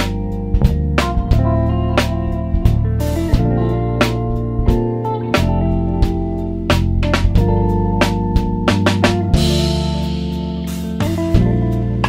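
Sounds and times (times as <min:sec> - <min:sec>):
drum kit beating: 0:00.0 - 0:12.0
held bass notes: 0:00.0 - 0:12.0.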